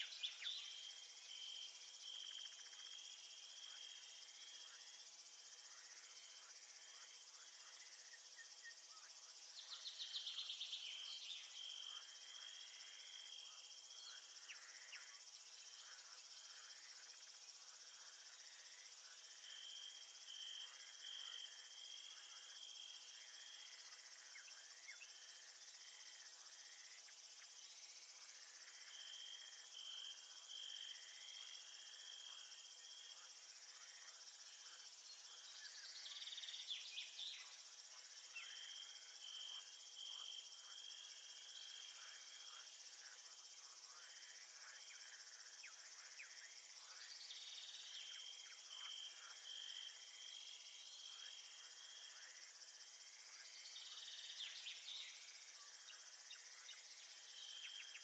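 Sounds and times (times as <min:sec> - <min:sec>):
crickets and insects chirping: 0:00.0 - 0:58.0
rapidly pulsed insect trill: 0:00.0 - 0:58.0.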